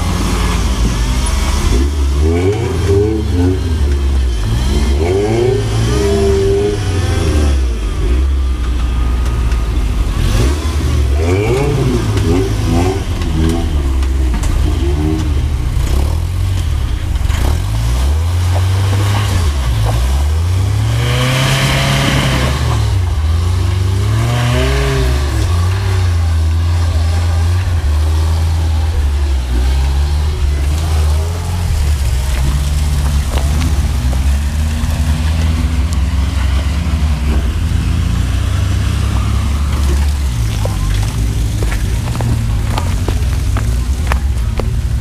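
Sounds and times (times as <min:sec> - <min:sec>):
truck engine revving: 0:00.0 - 0:45.0.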